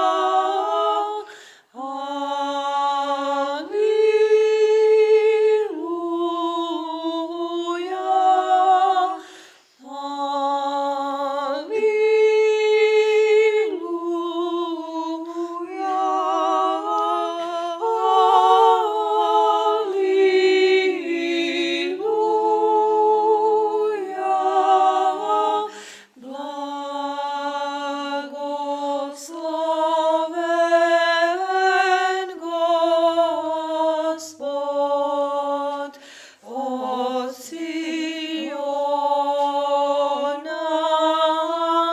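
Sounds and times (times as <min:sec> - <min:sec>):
a cappella singing: 0:00.0 - 0:41.9.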